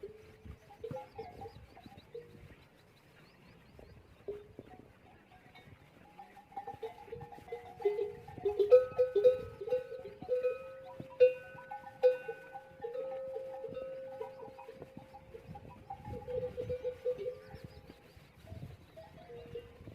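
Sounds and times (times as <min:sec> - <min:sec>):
camel bells clanking: 0:00.0 - 0:02.5, 0:04.2 - 0:19.9.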